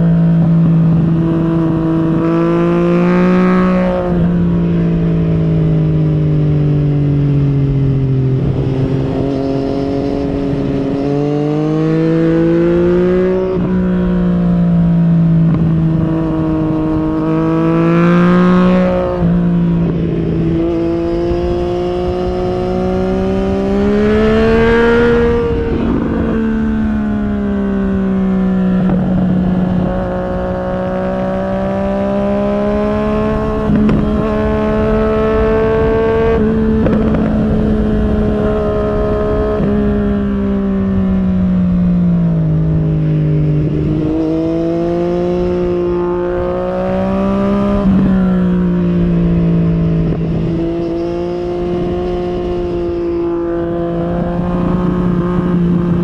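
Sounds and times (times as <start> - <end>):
motorcycle engine changing speed: 0.0 - 56.0.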